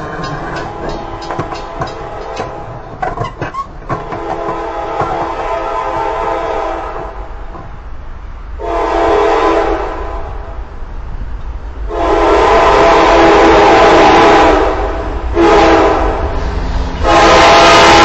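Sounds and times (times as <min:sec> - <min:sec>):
locomotive air horn: 0:00.0 - 0:07.4, 0:08.6 - 0:10.6, 0:11.9 - 0:18.0.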